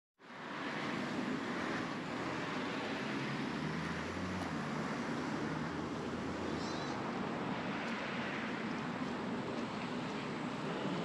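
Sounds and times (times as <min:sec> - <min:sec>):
road traffic: 0:00.2 - 0:11.0
wind: 0:00.2 - 0:11.0
low engine hum: 0:02.0 - 0:11.0.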